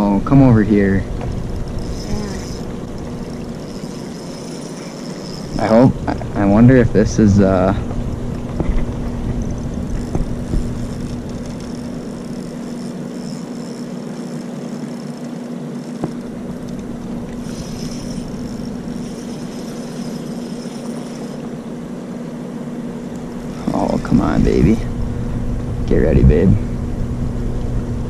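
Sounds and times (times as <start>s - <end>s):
electric trolling motor humming: 0.0s - 28.0s.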